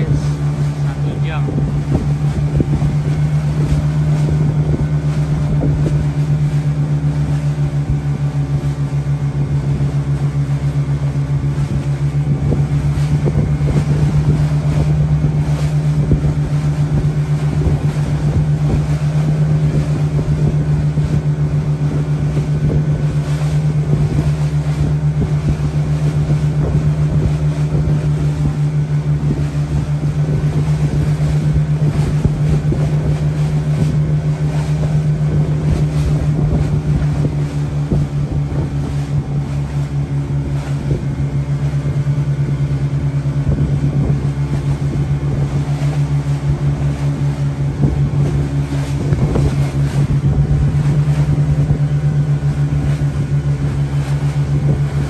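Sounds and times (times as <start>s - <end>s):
boat engine droning: 0.0s - 55.0s
rushing water: 0.0s - 55.0s
wind: 0.0s - 55.0s.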